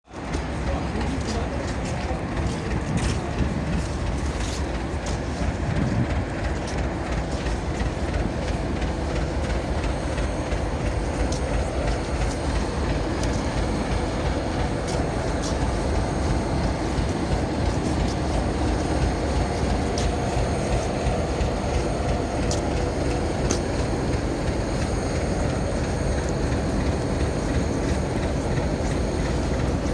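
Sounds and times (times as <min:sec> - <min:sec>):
train rumble: 0:00.0 - 0:29.9
wheels clicking over rail joints: 0:00.1 - 0:29.9.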